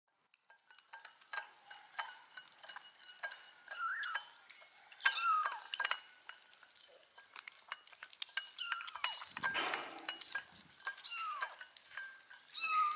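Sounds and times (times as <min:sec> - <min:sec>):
clinks against a bowl: 0:00.3 - 0:12.9.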